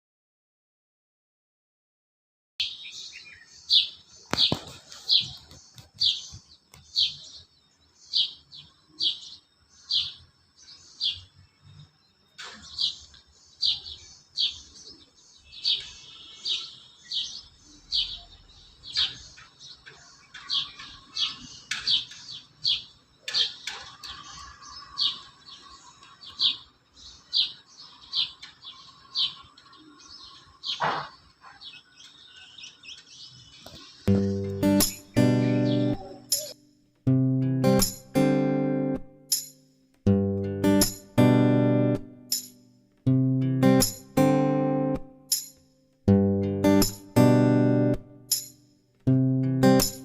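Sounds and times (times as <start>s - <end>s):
bird chirping: 2.6s - 50.0s.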